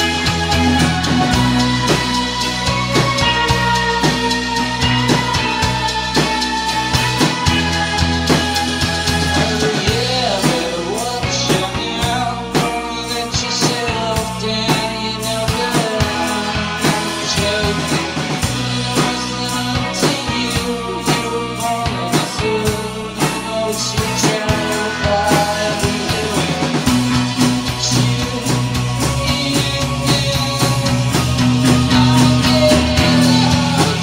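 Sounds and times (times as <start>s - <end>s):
rock band playing: 0.0s - 34.0s.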